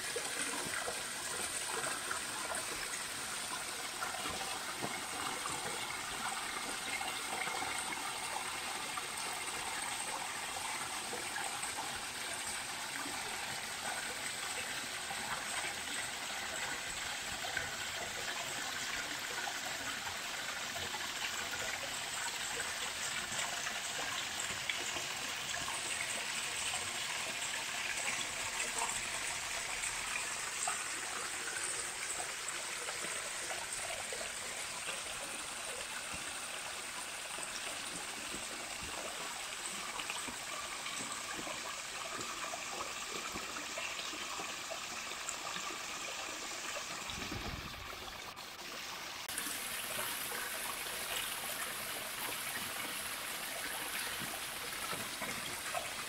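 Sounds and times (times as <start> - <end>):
stream cascading over rocks: 0.0 - 56.0.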